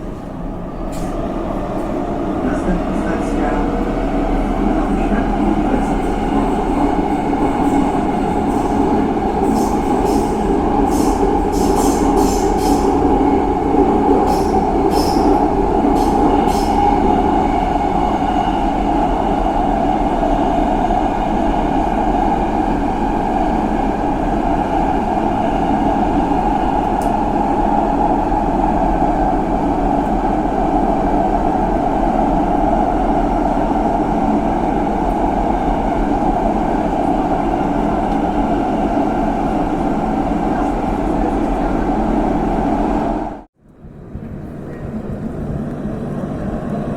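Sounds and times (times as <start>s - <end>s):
train rumbling on track: 0.0s - 46.9s.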